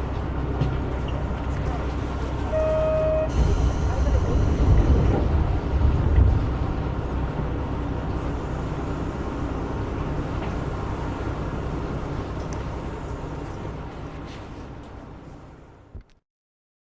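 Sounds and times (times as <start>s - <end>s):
diesel engine low rumble: 0.0s - 16.2s.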